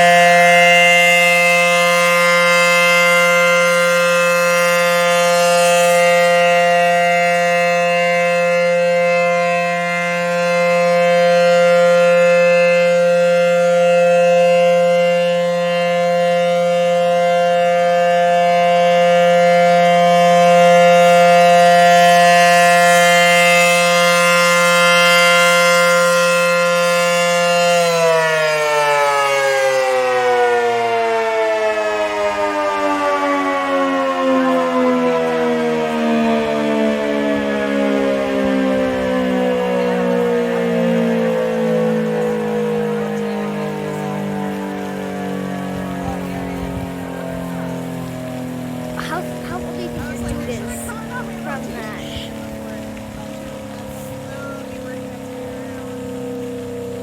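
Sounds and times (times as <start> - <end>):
warning siren: 0.0 - 57.0.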